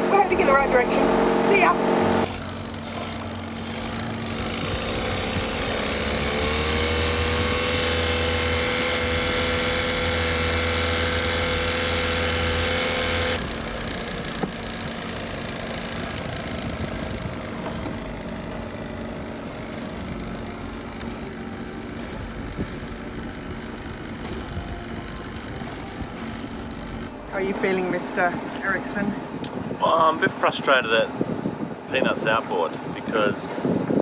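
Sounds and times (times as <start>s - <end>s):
boat engine running: 0.0s - 34.0s
low engine hum: 0.0s - 34.0s.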